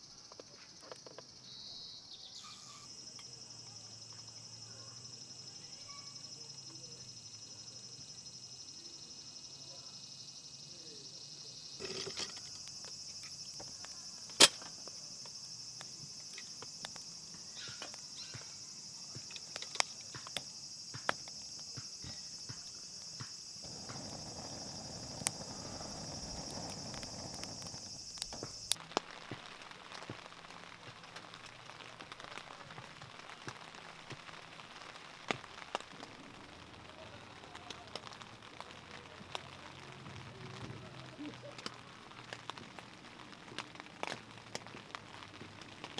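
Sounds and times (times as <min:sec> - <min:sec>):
steady hiss: 0:02.3 - 0:39.7
campfire crackling and popping: 0:02.8 - 0:45.9.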